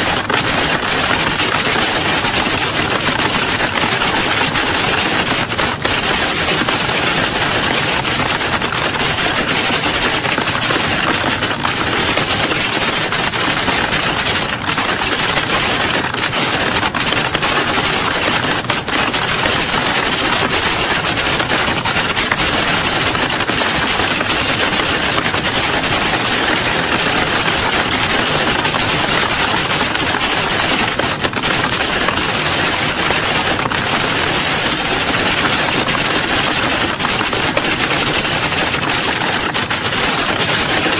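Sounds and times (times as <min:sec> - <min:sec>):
many people typing: 0:00.0 - 0:40.9.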